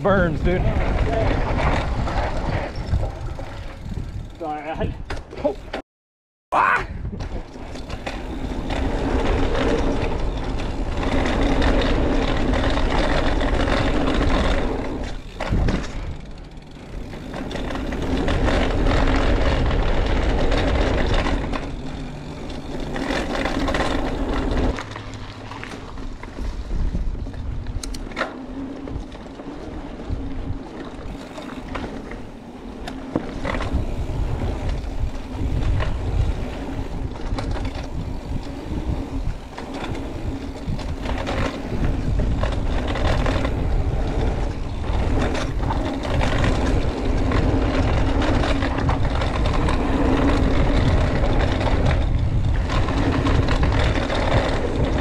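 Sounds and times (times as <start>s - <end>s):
bike rattling: 0.0s - 5.8s, 6.6s - 55.0s
bike tyres rolling on dirt: 0.0s - 5.8s, 7.0s - 55.0s.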